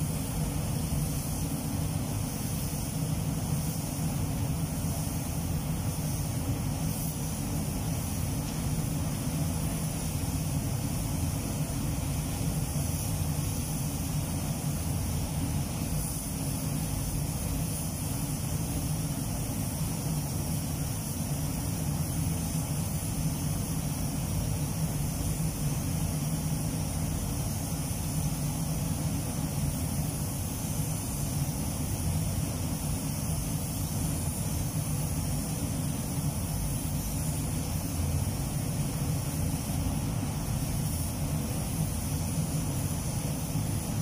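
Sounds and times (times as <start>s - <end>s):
spray gun hissing: 0.0s - 44.0s
ventilation fans droning: 0.0s - 44.0s.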